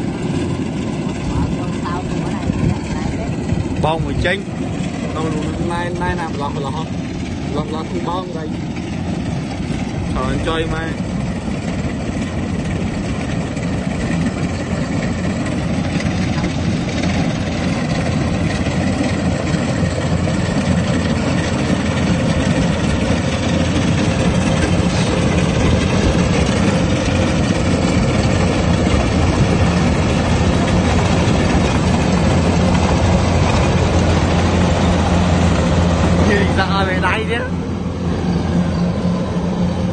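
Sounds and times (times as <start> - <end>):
combine harvester diesel engine running: 0.0 - 39.9.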